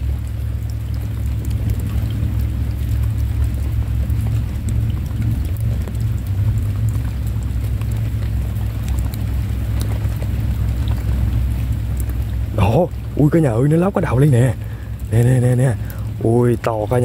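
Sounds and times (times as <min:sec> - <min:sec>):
rain falling: 0:00.0 - 0:17.0
raindrop ticks: 0:00.0 - 0:17.0
steady low rumble: 0:00.0 - 0:17.0.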